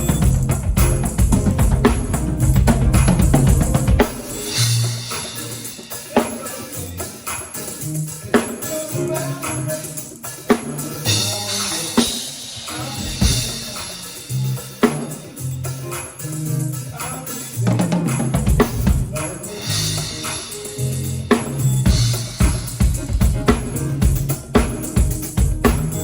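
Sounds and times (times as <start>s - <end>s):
music with drums and tambourine: 0.0s - 26.0s.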